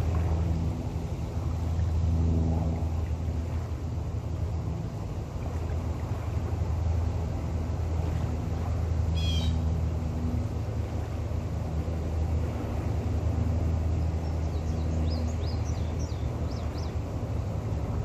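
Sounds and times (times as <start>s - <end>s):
diesel engines droning: 0.0s - 18.0s.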